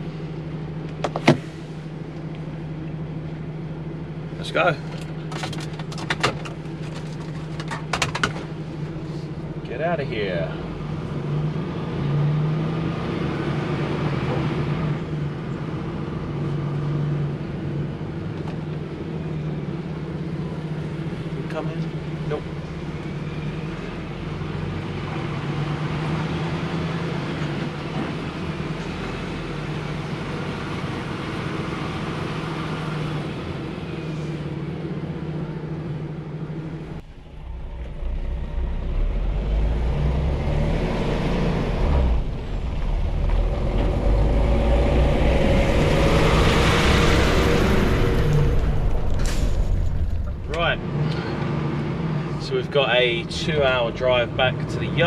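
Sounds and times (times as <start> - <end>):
lorry engine humming: 0.0 - 55.0
road noise: 0.0 - 55.0.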